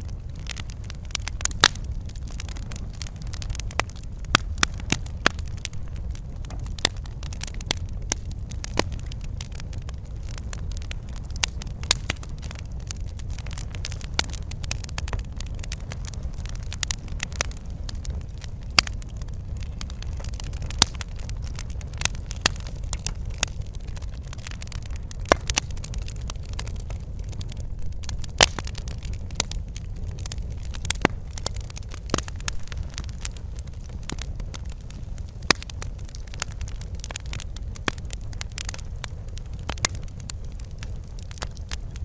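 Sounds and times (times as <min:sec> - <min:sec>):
fire crackling and popping: 0:00.0 - 0:42.0
low rumble of flames: 0:00.0 - 0:42.0.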